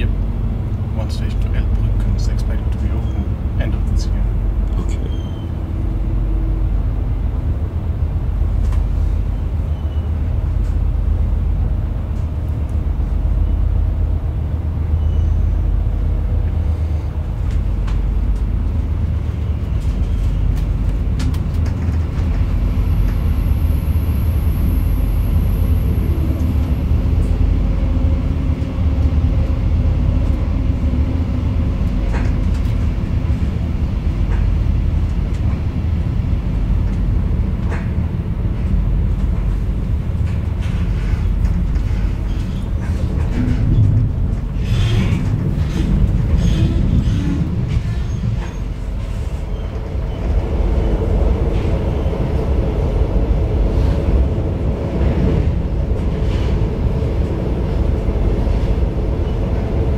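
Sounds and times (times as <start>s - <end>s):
train rumble inside coach: 0.0s - 59.9s.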